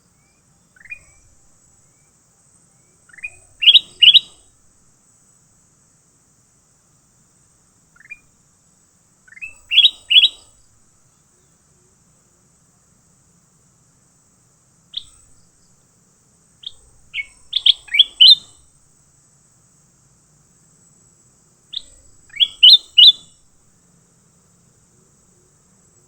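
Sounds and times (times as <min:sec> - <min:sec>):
songbird chirping: 0:00.0 - 0:05.4, 0:06.1 - 0:19.0, 0:19.6 - 0:26.0.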